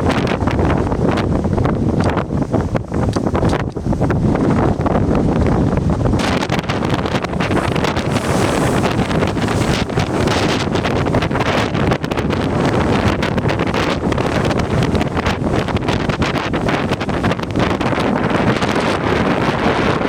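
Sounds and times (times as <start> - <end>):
storm wind buffeting microphone: 0.0 - 20.0.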